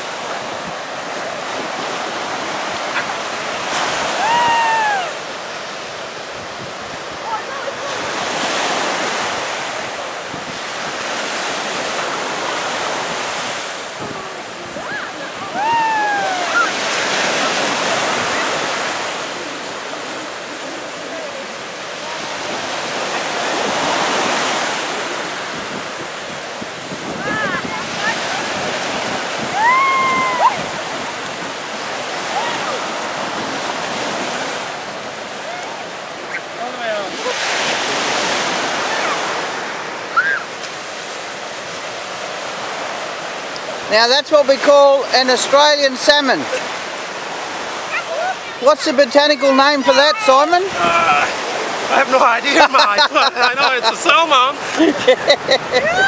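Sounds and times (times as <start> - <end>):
surf washing up sand: 0.0 - 56.0.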